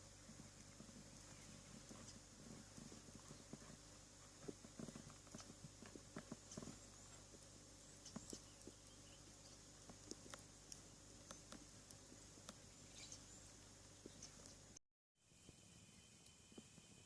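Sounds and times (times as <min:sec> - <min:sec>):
campfire crackling: 0:00.0 - 0:14.8.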